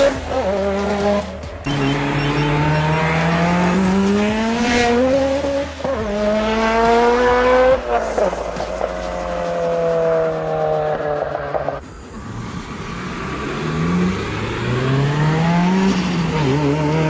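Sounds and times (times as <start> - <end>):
turbocharged car engine accelerating: 0.0 - 17.0.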